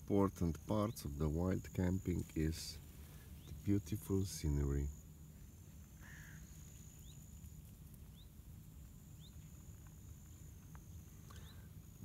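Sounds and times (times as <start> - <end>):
bird chirping: 0.7 - 11.8.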